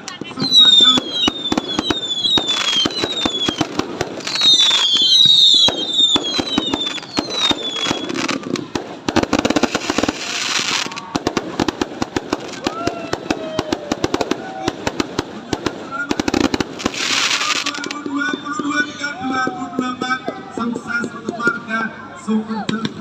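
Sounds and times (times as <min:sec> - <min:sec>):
fireworks bangs and crackles: 0:00.0 - 0:23.0
falling fireworks whistles: 0:00.1 - 0:19.6.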